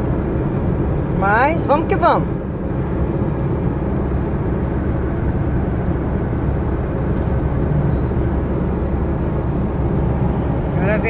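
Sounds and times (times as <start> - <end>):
engine and road noise drone: 0.0 - 11.0.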